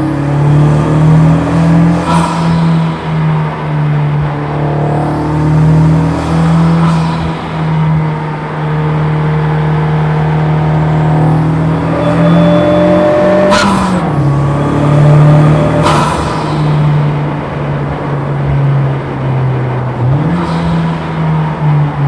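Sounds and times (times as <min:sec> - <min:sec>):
car engine droning at speed: 0:00.0 - 0:22.0.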